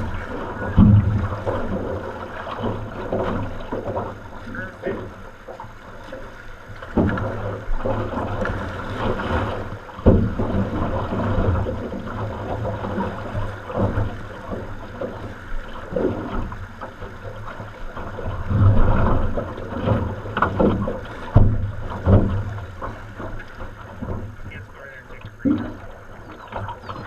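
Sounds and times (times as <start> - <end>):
rushing whitewater: 0.0 - 27.0
water and paddle hitting hull: 0.0 - 27.0.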